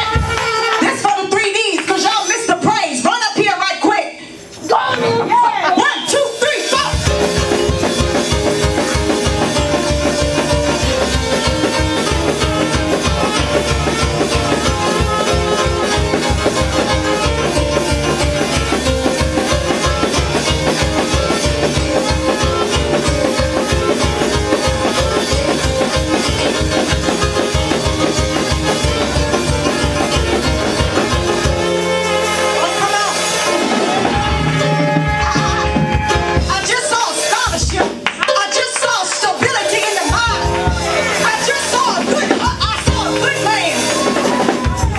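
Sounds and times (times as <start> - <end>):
bass: 0.0 - 38.1, 39.1 - 44.9
up-tempo gospel music: 0.0 - 44.9
fast drum beat: 5.3 - 44.9.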